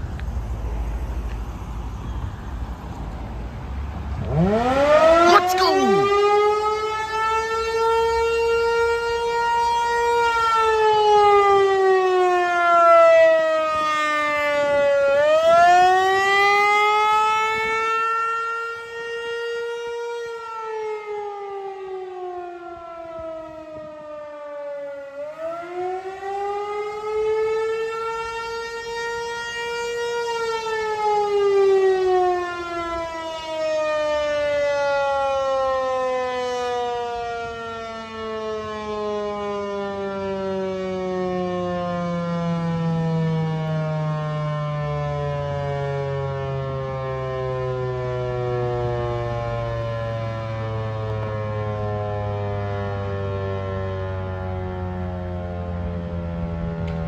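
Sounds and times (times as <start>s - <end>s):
warning siren wailing: 4.2s - 57.0s.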